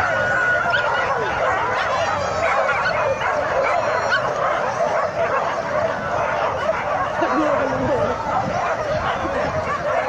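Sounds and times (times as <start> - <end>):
dogs yelping and barking: 0.0 - 10.0.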